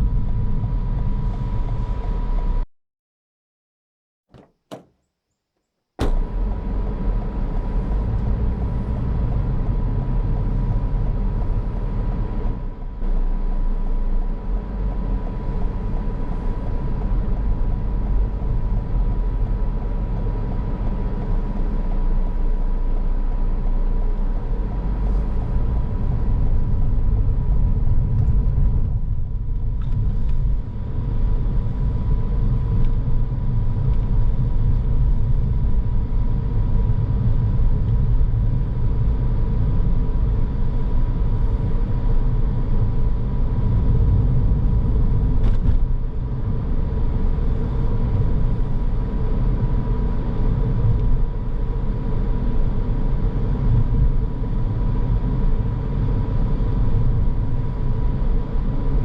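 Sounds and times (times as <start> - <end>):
car road and engine rumble: 0.0 - 2.6, 4.3 - 4.9, 6.0 - 59.0.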